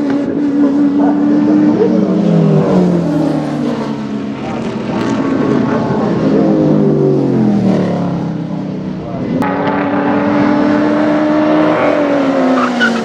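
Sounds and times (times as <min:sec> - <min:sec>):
racing car engine revving: 0:00.0 - 0:13.0.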